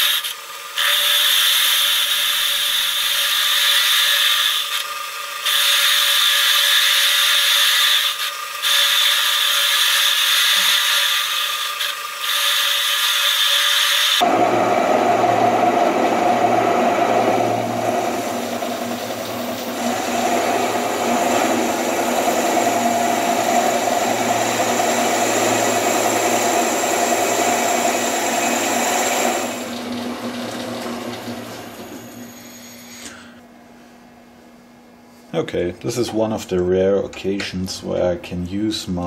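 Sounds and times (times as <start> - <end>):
metal lathe cutting: 0.0 - 33.0.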